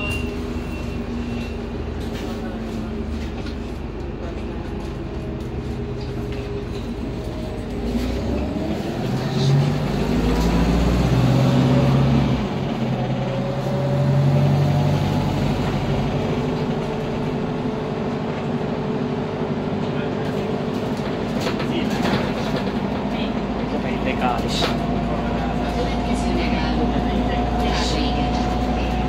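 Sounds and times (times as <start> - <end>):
bus running noise: 0.0 - 29.0.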